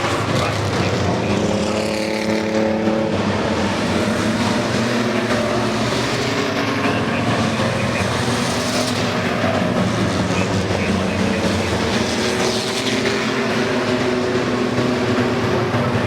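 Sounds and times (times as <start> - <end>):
pickup truck engines racing: 0.0 - 16.0.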